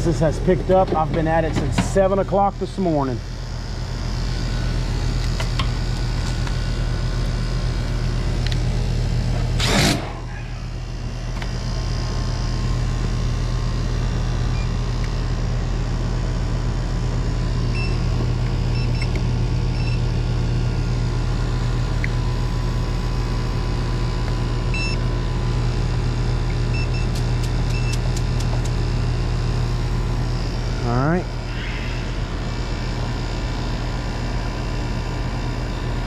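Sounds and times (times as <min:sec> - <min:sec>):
air conditioner humming: 0:00.0 - 0:36.0.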